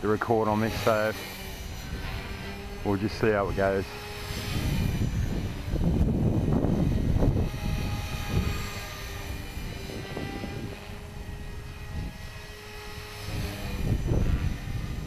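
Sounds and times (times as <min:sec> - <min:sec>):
rc helicopter motor whine: 0:00.0 - 0:15.0
wind rumble on microphone: 0:00.0 - 0:15.0.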